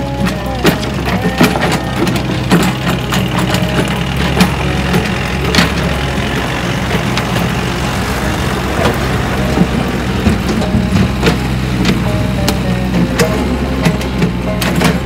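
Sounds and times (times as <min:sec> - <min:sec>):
brick rubble clattering: 0:00.0 - 0:15.0
dump truck engine: 0:00.0 - 0:15.0
excavator diesel engine: 0:00.0 - 0:15.0.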